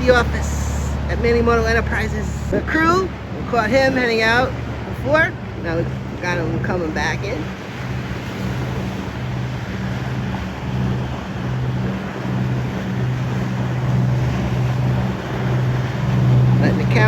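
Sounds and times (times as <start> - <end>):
boat engine droning: 0.0 - 17.0
water noise: 0.0 - 17.0
wind: 0.0 - 17.0.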